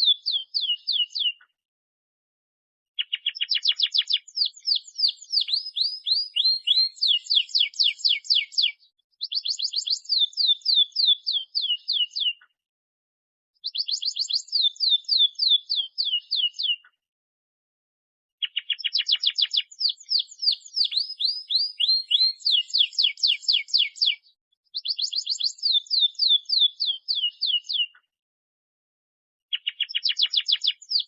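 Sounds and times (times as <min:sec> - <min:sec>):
canary singing trills: 0:00.0 - 0:01.4, 0:03.0 - 0:12.4, 0:13.6 - 0:16.9, 0:18.4 - 0:28.0, 0:29.5 - 0:31.0.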